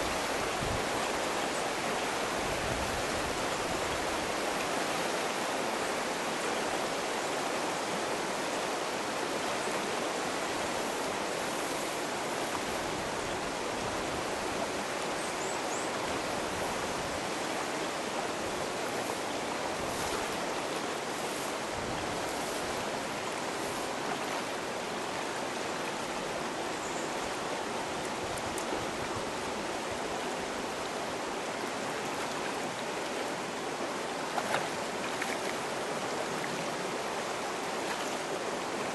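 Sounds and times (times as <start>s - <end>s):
river water rushing over stones: 0.0s - 38.9s.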